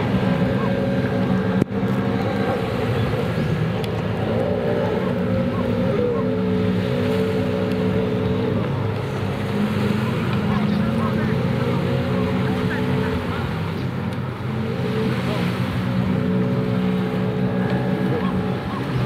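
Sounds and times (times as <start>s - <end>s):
jet ski engines at high speed: 0.0s - 19.0s.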